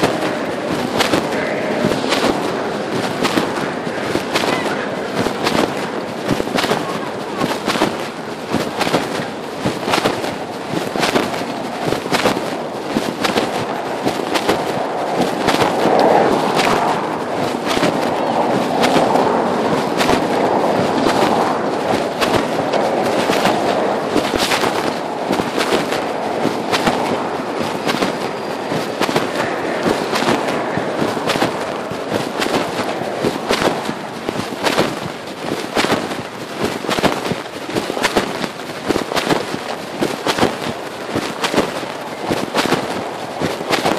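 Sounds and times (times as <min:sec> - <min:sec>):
fabric rubbing on phone microphone: 0:00.0 - 0:43.9.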